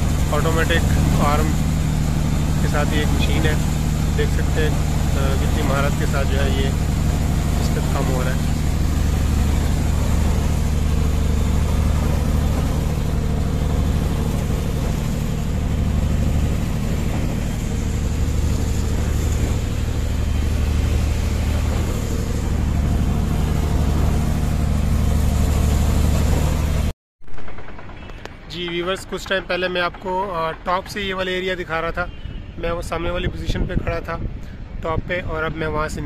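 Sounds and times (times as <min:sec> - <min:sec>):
machine engine droning with hiss: 0:00.0 - 0:31.6.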